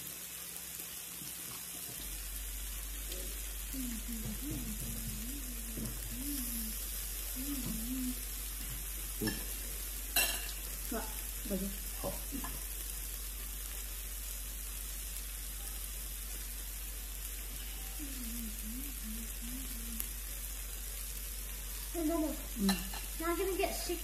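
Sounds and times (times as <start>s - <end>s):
meat sizzling on grill pan: 0.0s - 24.0s.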